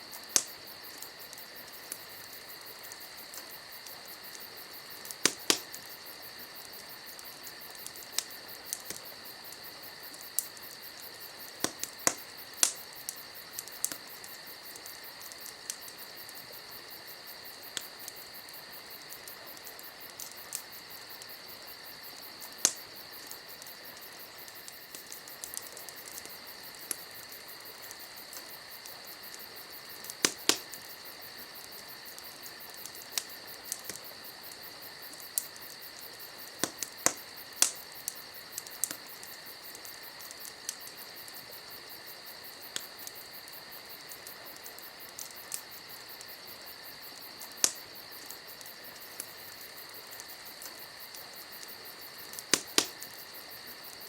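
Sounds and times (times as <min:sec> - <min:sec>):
campfire crackling and popping: 0:00.0 - 0:54.0
insects chirping: 0:00.0 - 0:54.0.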